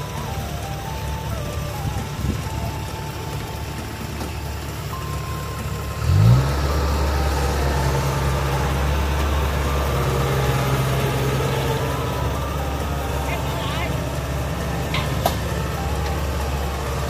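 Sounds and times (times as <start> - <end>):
diesel engine running and revving: 0.0 - 17.0.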